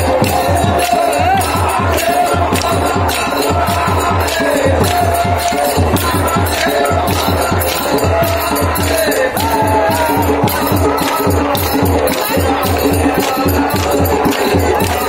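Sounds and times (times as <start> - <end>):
fast drum beat: 0.0 - 15.0.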